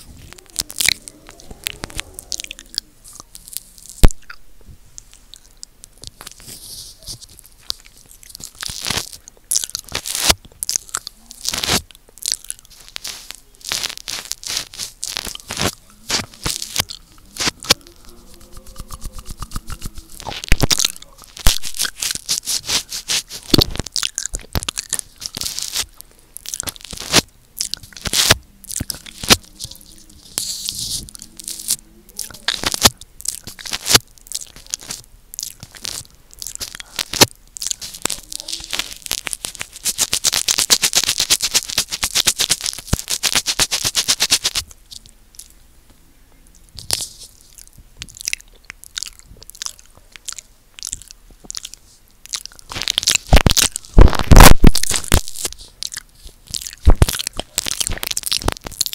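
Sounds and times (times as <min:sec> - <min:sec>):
wet mouth licking microphone: 0:00.0 - 0:04.4, 0:05.0 - 0:45.6, 0:46.8 - 0:58.9
lip smacks and tongue clicks: 0:00.3 - 0:04.4, 0:07.2 - 0:45.6, 0:46.8 - 0:58.9.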